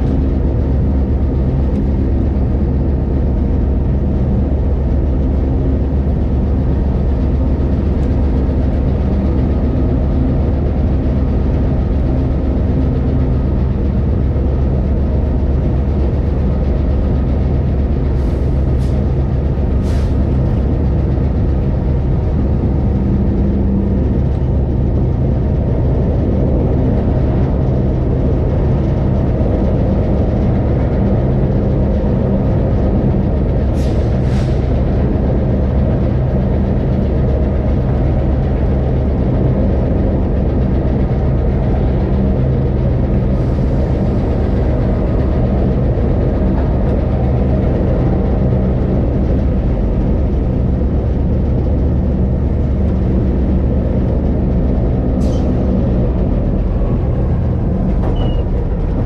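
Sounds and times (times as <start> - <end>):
train engine droning: 0.0 - 59.0
train wheels rumbling on track: 0.0 - 59.0.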